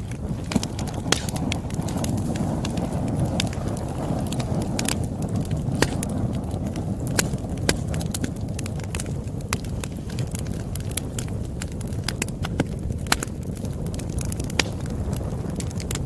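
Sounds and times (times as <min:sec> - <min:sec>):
burning wood crackling and popping: 0:00.0 - 0:16.0
campfire flames rumbling: 0:00.0 - 0:16.0.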